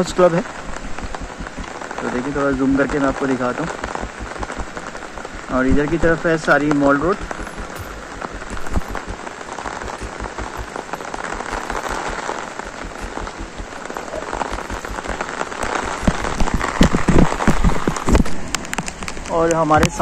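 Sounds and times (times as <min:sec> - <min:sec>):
rain falling on water: 0:00.0 - 0:20.0.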